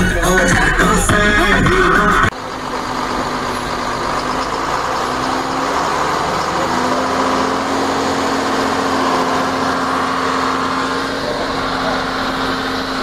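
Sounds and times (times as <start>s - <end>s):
heavy vehicle engines humming: 0.0s - 13.0s
road noise: 0.0s - 13.0s.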